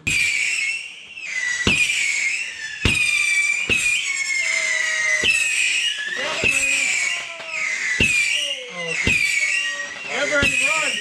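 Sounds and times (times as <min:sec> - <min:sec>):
firework launch pops: 0:00.0 - 0:08.4, 0:09.0 - 0:09.5
shrill firework whistles: 0:00.0 - 0:11.0.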